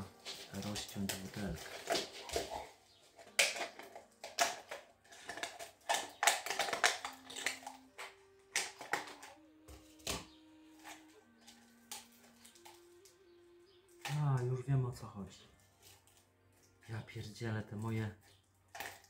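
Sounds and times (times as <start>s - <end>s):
plastic bottle crackling: 0.0s - 14.6s, 15.5s - 19.0s.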